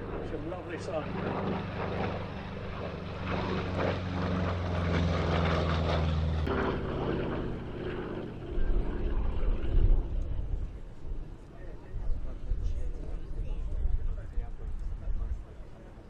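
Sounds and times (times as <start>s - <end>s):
propeller plane flying past: 0.0s - 16.0s
gusty low rumble: 1.0s - 15.7s.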